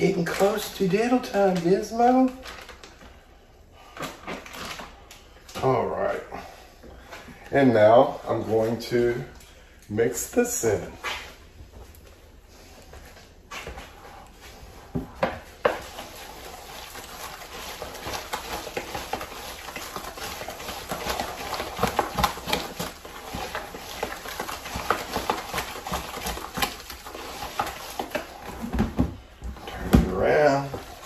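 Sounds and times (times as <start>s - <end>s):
squishy mixture being stirred: 0.0s - 31.0s.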